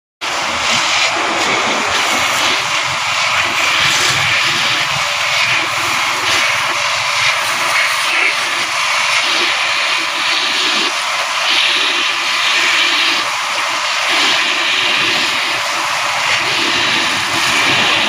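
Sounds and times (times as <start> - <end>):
pressure washer spraying water: 0.2 - 18.0.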